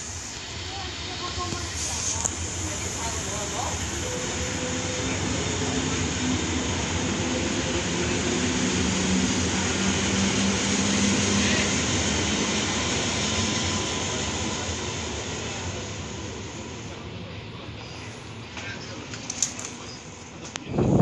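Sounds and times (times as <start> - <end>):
train wheels rolling on rails: 0.0 - 17.0, 17.8 - 21.0.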